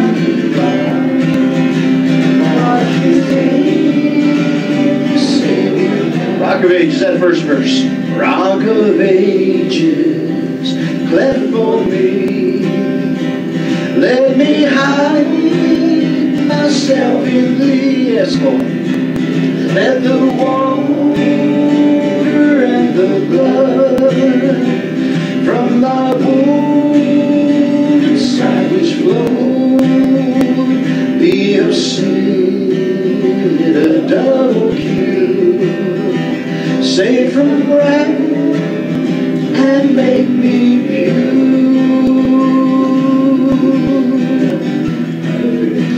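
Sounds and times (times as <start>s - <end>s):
congregation singing: 0.0s - 45.9s
strummed instrumental accompaniment: 0.0s - 45.9s.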